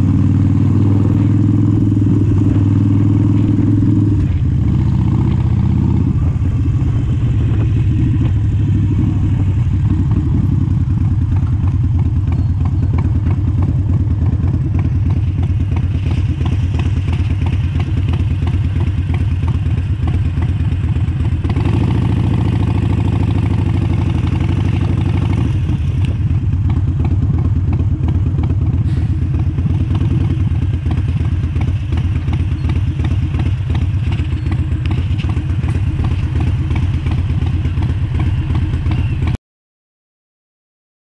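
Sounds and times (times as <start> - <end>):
motorcycle engine while riding: 0.0 - 39.4.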